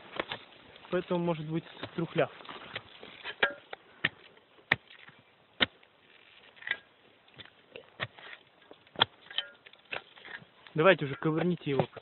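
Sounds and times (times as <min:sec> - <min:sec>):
shovel digging into earth: 0:01.4 - 0:12.0.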